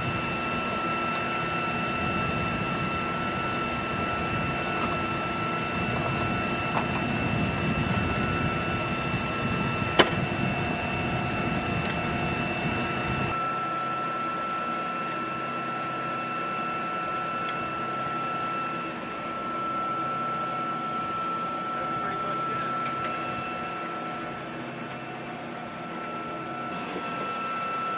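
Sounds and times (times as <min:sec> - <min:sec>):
aircraft machinery whine and rumble: 0:00.0 - 0:27.9.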